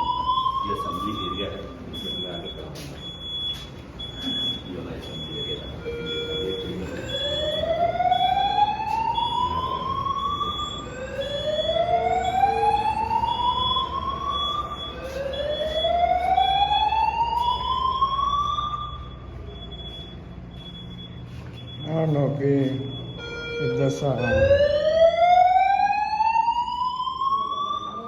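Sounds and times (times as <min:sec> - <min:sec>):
rising whoop fire alarm: 0:00.0 - 0:28.0.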